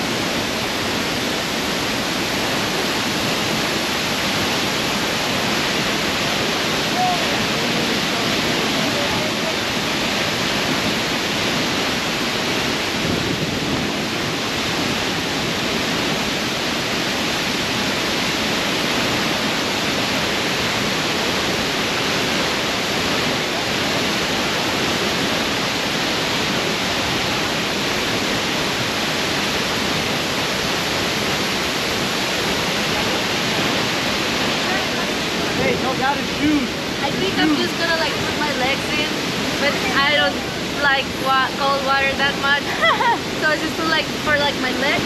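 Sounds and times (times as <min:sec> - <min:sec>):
waterfall pouring into pool: 0:00.0 - 0:13.1, 0:13.9 - 0:41.6.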